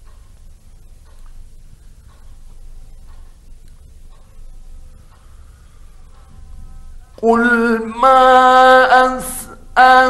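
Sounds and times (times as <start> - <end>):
low rumble with hiss: 0.0 - 8.1.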